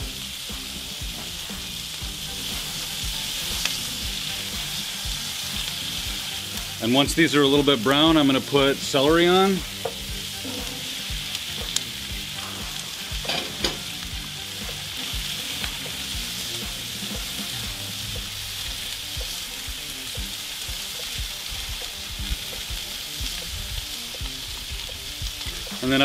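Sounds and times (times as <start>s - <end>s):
vegetables sizzling in a skillet: 0.0s - 26.0s.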